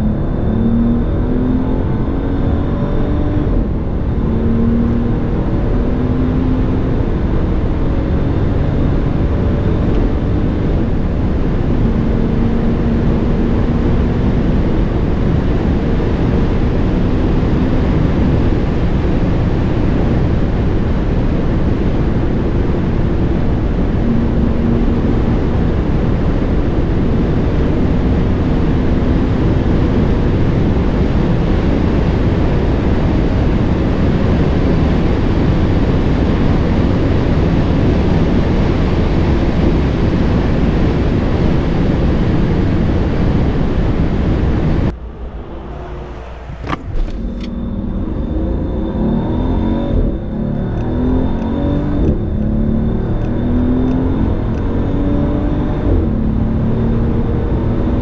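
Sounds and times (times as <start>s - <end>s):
faint car engine drone: 0.0s - 58.0s
wind and road noise: 0.0s - 58.0s.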